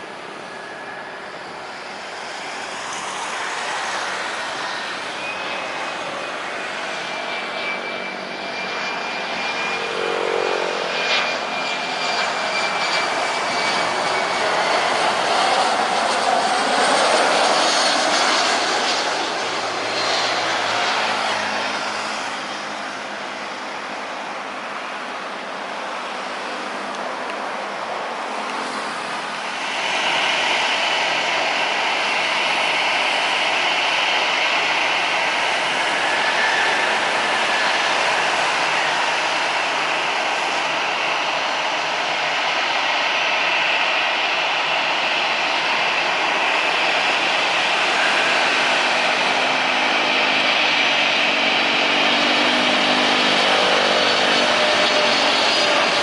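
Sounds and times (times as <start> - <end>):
jet engine rushing: 0.0 - 56.0.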